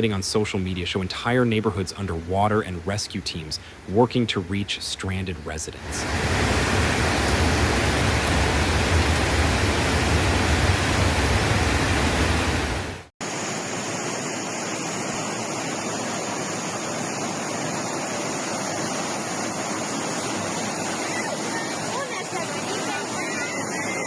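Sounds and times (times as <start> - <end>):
rushing floodwater: 0.0 - 24.0
rushing water: 0.0 - 24.0.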